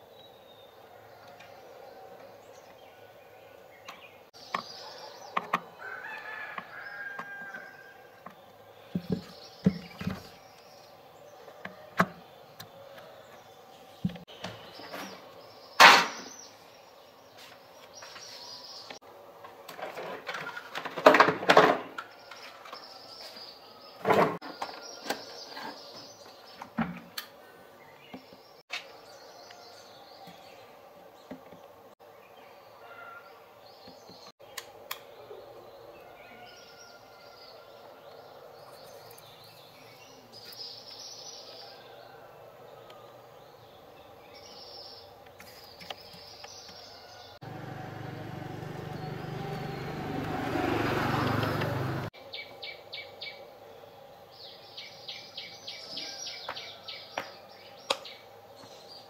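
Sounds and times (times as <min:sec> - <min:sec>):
birds chirping: 0:00.0 - 0:19.4, 0:21.5 - 0:59.0.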